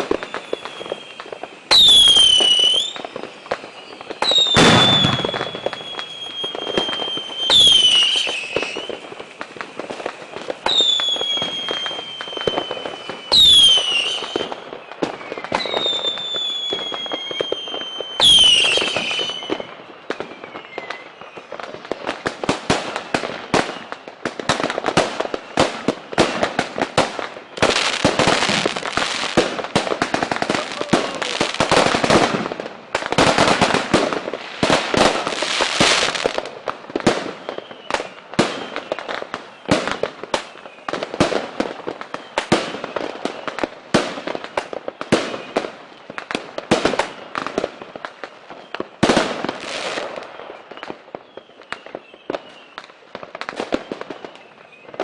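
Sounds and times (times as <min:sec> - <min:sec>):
faint firework whistles: 0:00.0 - 0:55.0
fireworks bangs and crackling: 0:00.0 - 0:55.0.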